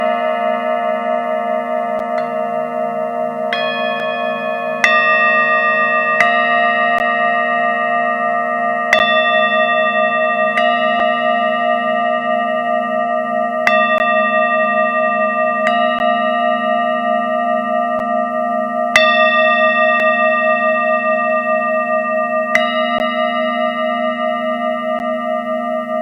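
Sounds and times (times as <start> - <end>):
singing bowl strikes: 0.0 - 26.0
singing bowls ringing: 0.0 - 26.0.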